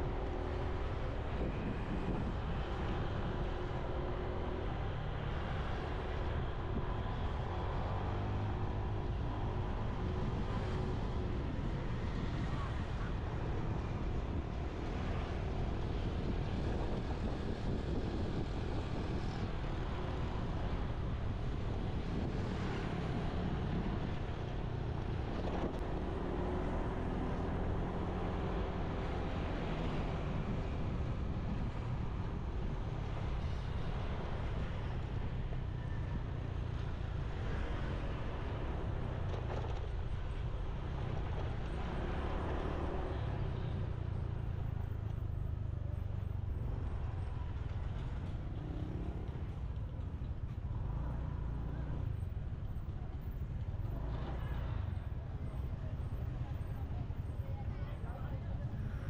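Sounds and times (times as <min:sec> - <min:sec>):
road noise: 0:00.0 - 0:59.0
wind rumble on microphone: 0:00.0 - 0:59.0.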